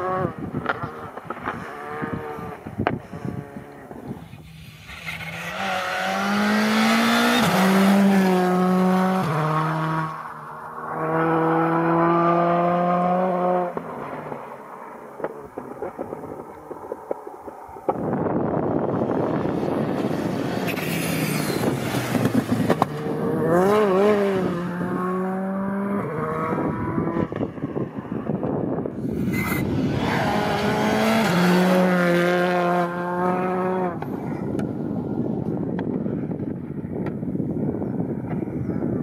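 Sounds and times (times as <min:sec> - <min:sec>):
rally car engines revving: 0:00.0 - 0:35.2
tyre and road noise: 0:00.0 - 0:39.0.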